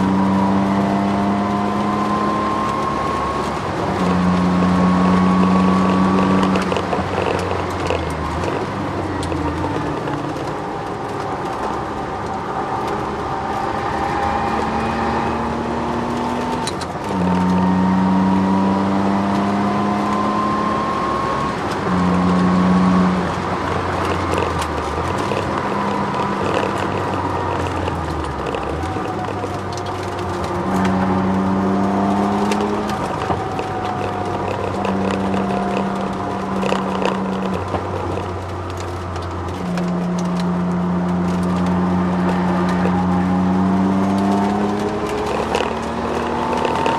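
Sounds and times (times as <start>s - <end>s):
car engine revving through gears: 0.0s - 46.9s
drivetrain whine: 0.0s - 46.9s.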